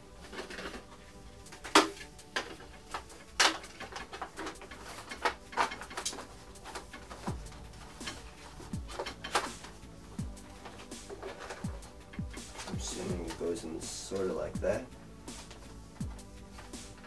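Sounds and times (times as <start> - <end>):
plastic parts clicking and clattering: 0.2 - 17.0.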